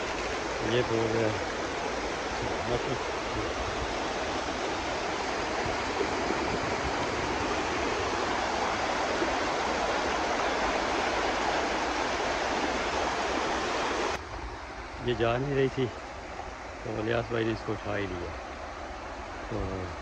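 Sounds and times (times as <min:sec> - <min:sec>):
river rushing over stones: 0:00.0 - 0:20.0.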